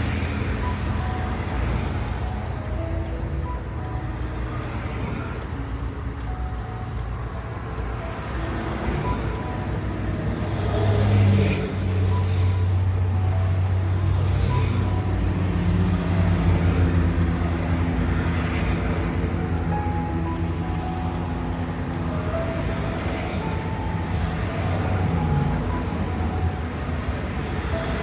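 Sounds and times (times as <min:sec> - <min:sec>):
highway traffic passing: 0:00.0 - 0:28.0
low engine drone: 0:00.0 - 0:28.0.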